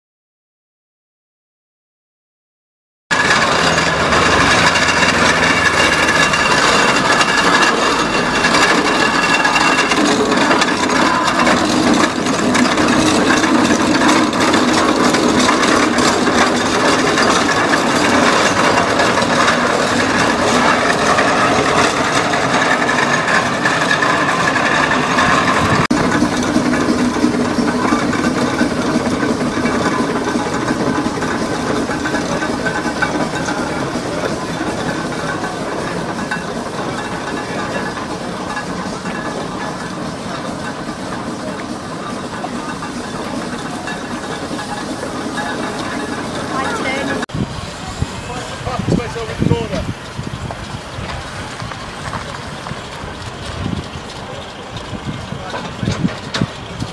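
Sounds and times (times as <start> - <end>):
steam traction engine clattering: 3.1 - 56.9.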